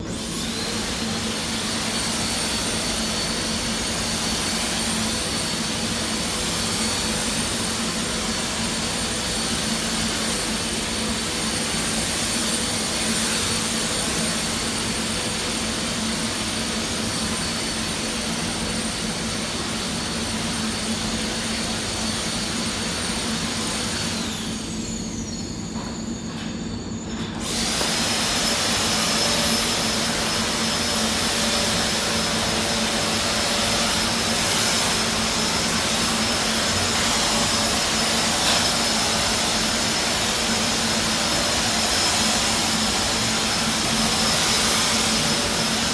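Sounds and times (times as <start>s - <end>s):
electric blower motor whining: 0.0s - 45.9s.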